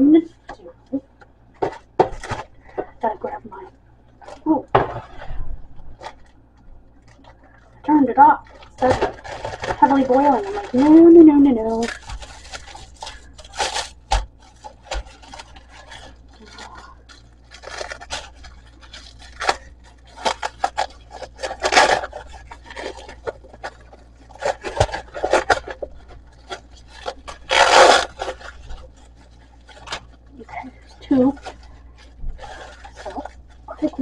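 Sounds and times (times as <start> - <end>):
rustling and scraping handling: 0.0 - 34.0.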